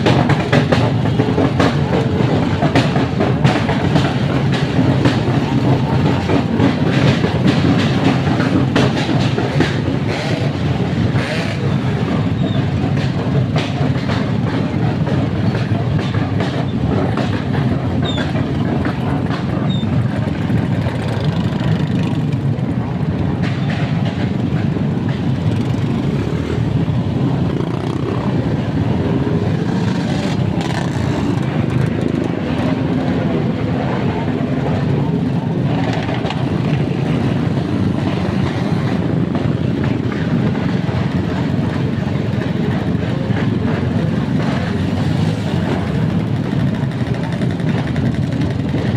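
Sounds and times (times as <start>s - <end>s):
engine exhaust rumble: 0.0s - 48.9s.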